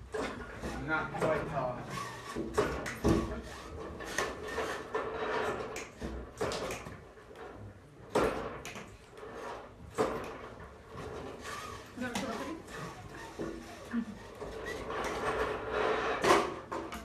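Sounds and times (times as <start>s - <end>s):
projector screen sliding: 0.1s - 17.0s.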